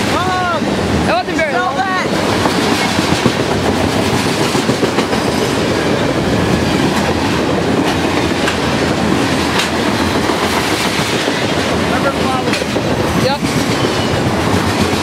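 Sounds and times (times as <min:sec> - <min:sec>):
wheels clacking over rail joints: 0:00.0 - 0:15.0.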